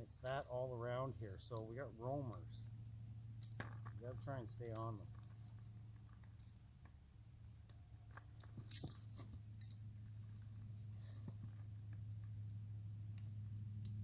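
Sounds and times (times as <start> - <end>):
light crunching: 0.0 - 7.0, 7.6 - 14.0
low hum: 0.0 - 14.0.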